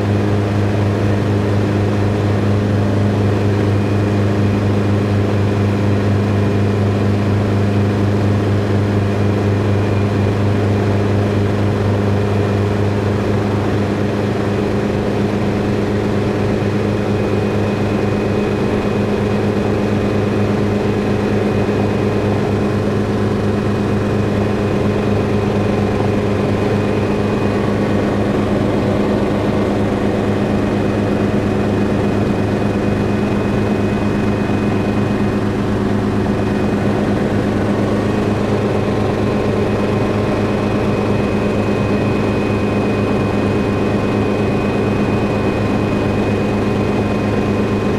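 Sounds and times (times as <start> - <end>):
helicopter drone: 0.0 - 47.9.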